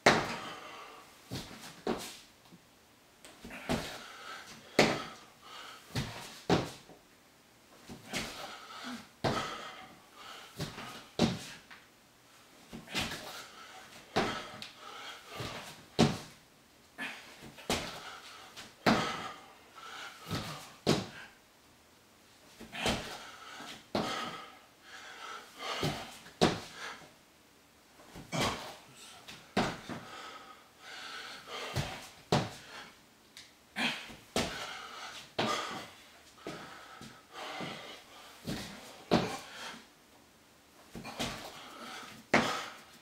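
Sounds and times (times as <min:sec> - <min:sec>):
hard breathing: 0:00.0 - 0:02.2, 0:03.4 - 0:06.8, 0:07.9 - 0:11.8, 0:12.7 - 0:16.3, 0:16.9 - 0:21.4, 0:22.6 - 0:27.1, 0:28.1 - 0:33.0, 0:33.7 - 0:40.0, 0:40.9 - 0:43.0.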